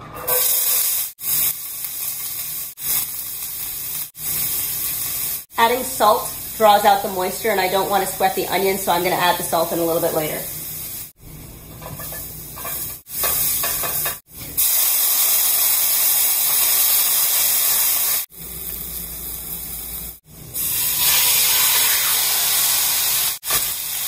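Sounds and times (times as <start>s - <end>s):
food sizzling in a frying pan: 0.1s - 24.0s.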